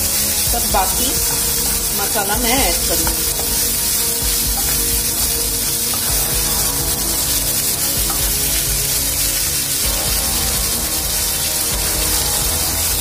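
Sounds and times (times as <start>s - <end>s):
background music: 0.0s - 13.0s
onions sizzling in a pan: 0.0s - 13.0s
wooden spatula stirring: 0.0s - 13.0s.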